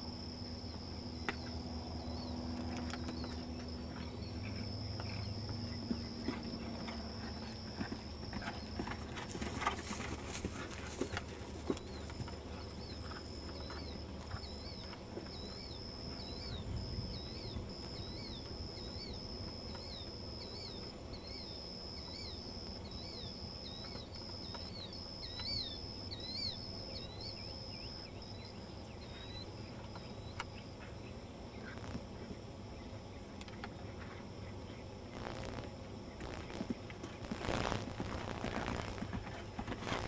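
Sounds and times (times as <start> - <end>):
insect buzzing: 0.0 - 30.9, 31.5 - 32.2, 34.1 - 40.0.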